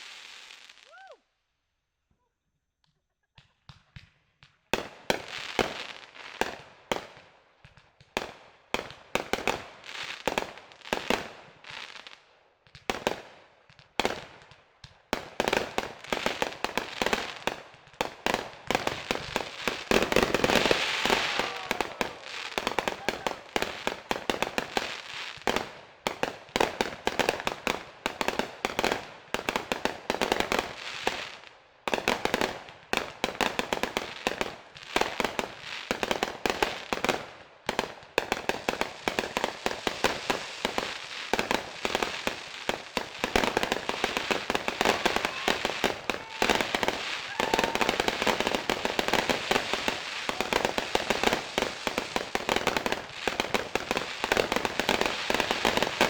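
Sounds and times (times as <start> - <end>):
fireworks crackling and banging: 0.0 - 1.0, 2.9 - 56.0.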